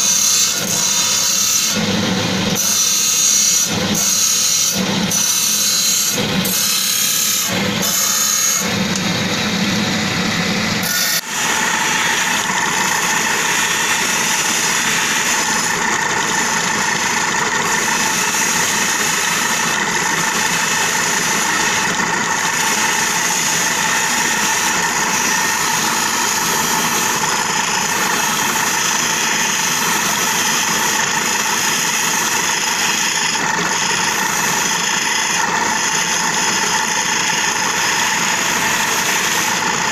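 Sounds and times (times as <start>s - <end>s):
stone grinding on wheel: 0.0s - 1.8s, 2.6s - 8.8s, 10.8s - 39.9s
machine whine: 0.0s - 39.9s.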